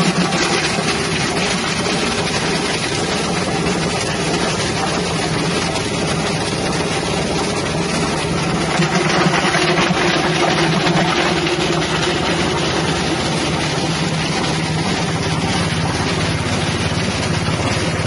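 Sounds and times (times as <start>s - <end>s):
grinding machine motor drone: 0.0s - 18.0s.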